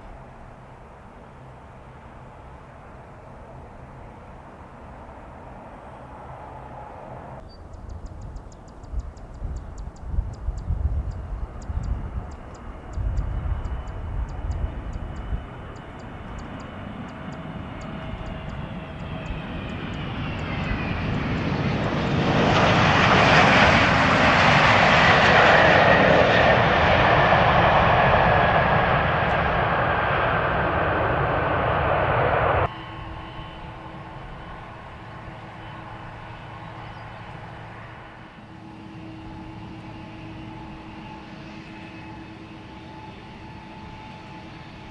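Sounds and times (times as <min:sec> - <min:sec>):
jet airliner passing overhead: 0:00.0 - 0:44.9
low gusty rumbling: 0:06.0 - 0:42.2.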